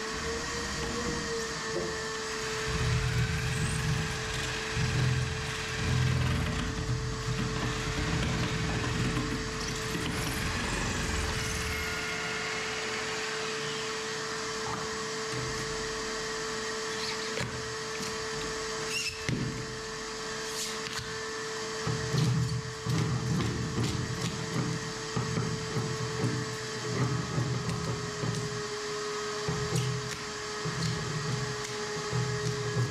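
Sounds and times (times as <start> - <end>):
power tool humming: 0.0 - 32.9.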